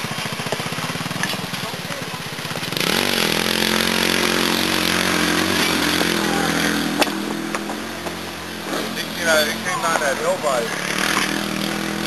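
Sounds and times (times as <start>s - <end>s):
go-kart engine revving: 0.0s - 12.0s.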